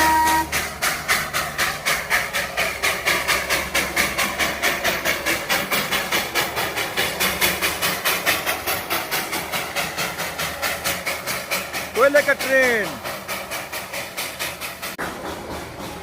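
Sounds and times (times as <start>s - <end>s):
steam hissing: 0.0s - 16.0s
steam locomotive chuffing: 0.0s - 16.0s.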